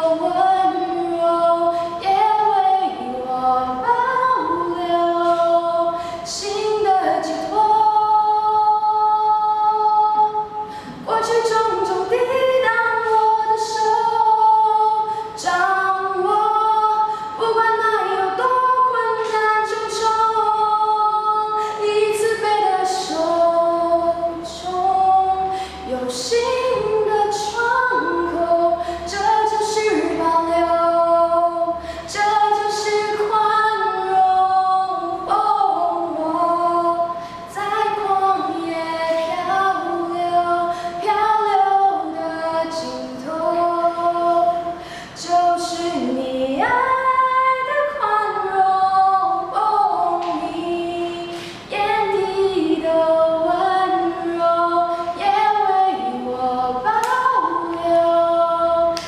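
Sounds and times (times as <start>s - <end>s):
girl singing unaccompanied: 0.0s - 59.0s.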